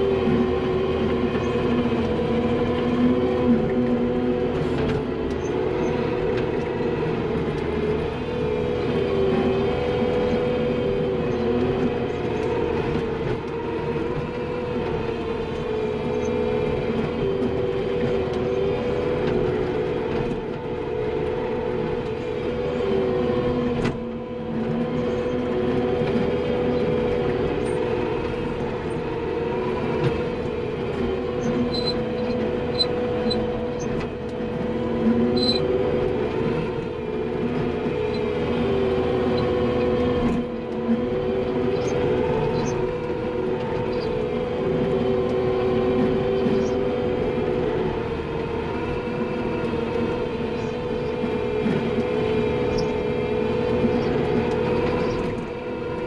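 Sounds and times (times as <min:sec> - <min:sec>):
skid steer engine and hydraulics: 0:00.0 - 0:56.0.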